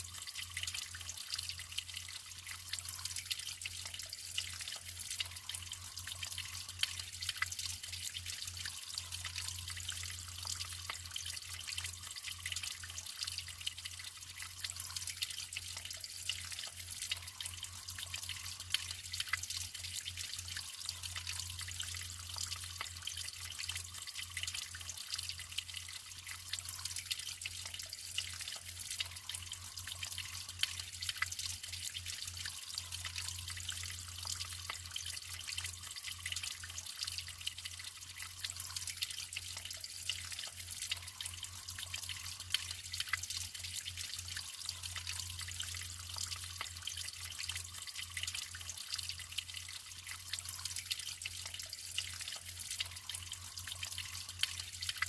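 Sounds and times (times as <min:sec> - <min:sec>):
water drips and splashes: 0:00.0 - 0:55.0
water trickling: 0:00.0 - 0:55.0.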